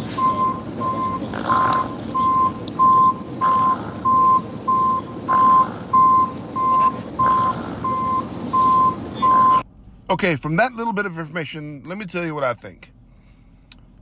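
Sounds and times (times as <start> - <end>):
street noise rumble: 0.0 - 14.0.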